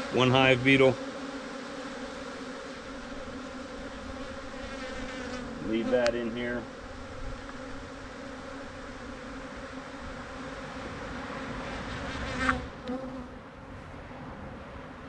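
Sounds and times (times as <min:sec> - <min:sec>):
bees buzzing: 0:00.0 - 0:13.4
single bee buzzing past: 0:00.0 - 0:13.4.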